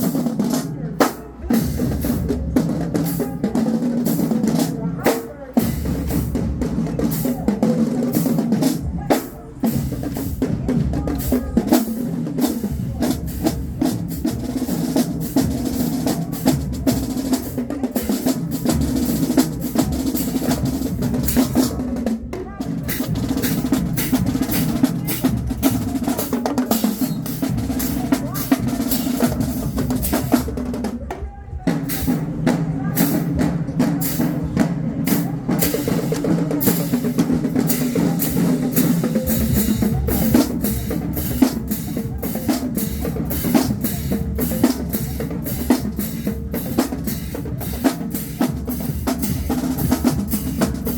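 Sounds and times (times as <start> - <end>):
snare drums with rolls: 0.0 - 50.9
bass drums: 5.6 - 50.9.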